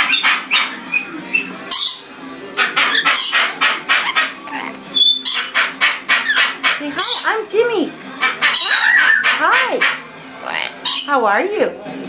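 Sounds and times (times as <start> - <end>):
parrot whistling: 0.0 - 10.0
parrot squawking: 0.0 - 11.2.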